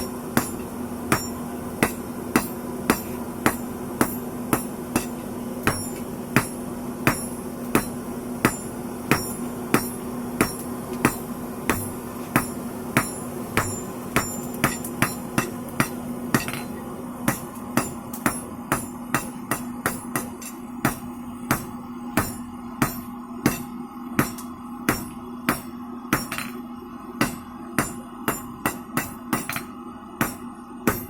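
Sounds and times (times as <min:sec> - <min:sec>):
hammer striking steel on anvil: 0:00.0 - 0:31.0.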